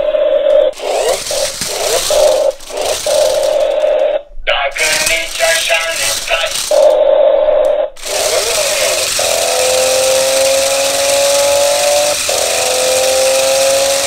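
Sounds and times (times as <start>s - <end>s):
electric motor whine and hiss: 0.6s - 4.2s, 4.8s - 7.0s, 8.0s - 14.0s
toy speaker music with rattle: 0.7s - 4.1s, 4.7s - 7.0s, 8.0s - 14.0s.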